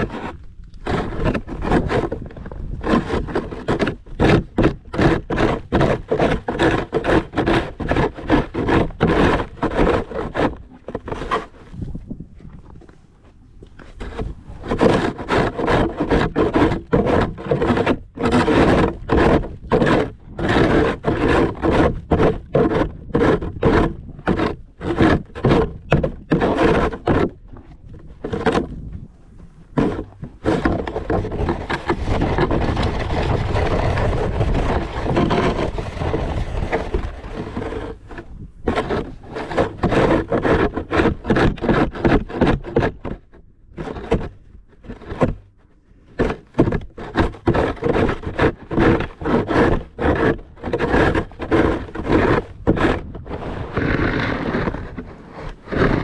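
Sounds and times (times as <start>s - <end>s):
snow shovel scraping pavement: 0.0s - 11.9s, 13.8s - 56.0s.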